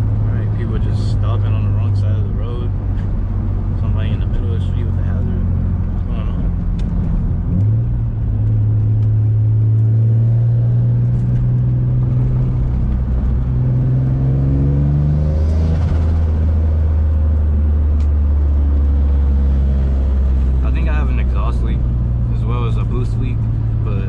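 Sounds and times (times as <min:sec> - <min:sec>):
car engine revving with gear shift: 0:00.0 - 0:24.0.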